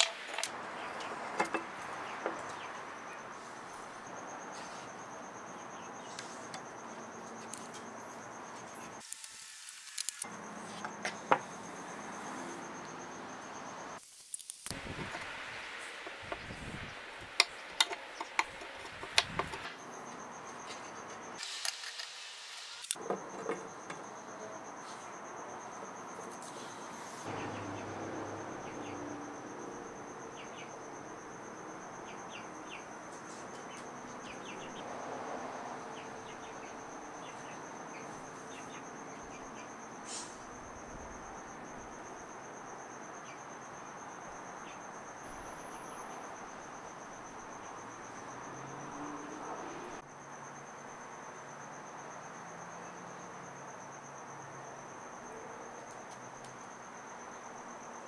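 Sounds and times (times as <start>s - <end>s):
cricket trilling: 0.0s - 58.0s.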